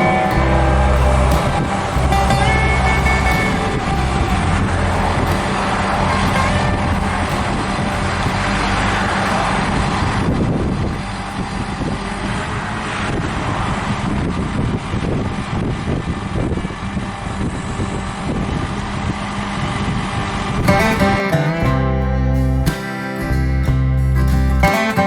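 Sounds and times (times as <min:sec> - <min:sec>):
wind noise: 0:00.0 - 0:22.7
truck diesel engine running: 0:00.0 - 0:24.8
road noise: 0:00.0 - 0:25.0.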